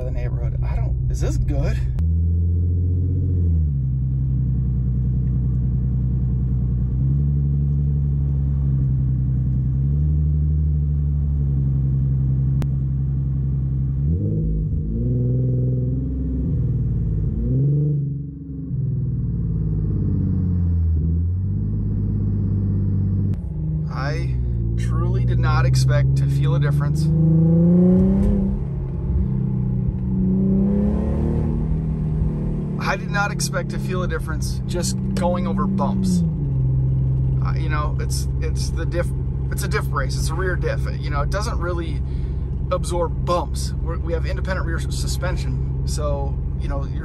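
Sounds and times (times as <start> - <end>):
muffled car engine drone: 0.0 - 47.0.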